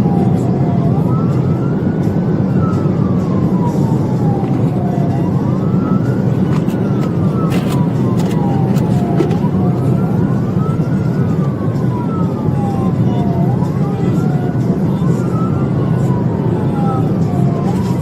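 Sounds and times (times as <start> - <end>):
car driving at speed: 0.0 - 18.0
police siren wailing: 0.0 - 18.0.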